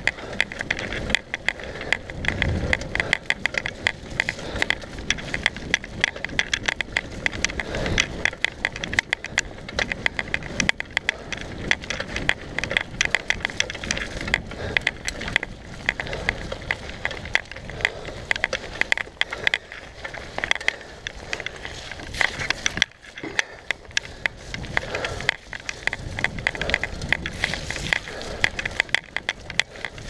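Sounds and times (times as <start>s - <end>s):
bike clicking and rattling: 0.0s - 30.0s
tyres rumbling on dirt: 0.0s - 30.0s.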